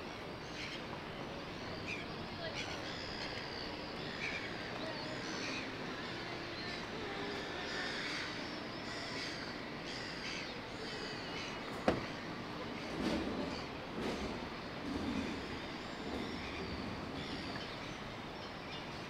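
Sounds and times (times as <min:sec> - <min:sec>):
city background noise: 0:00.0 - 0:19.0
birds chirping and warbling: 0:00.2 - 0:19.0.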